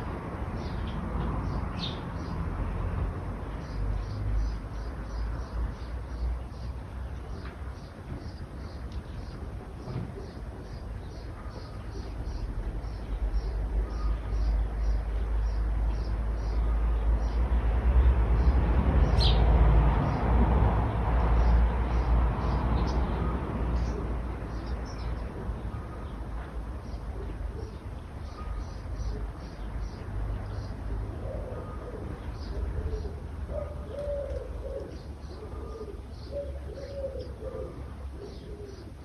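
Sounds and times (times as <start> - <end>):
road vehicle passing: 0.0 - 39.0.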